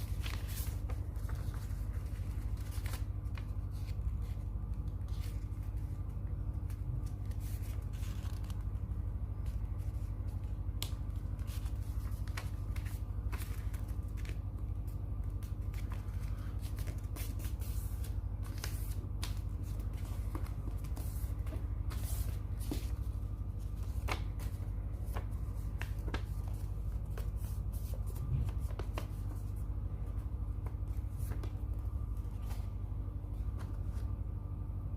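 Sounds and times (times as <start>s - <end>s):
paper crackling and rustling: 0.0s - 34.3s
steady low hum: 0.0s - 34.9s.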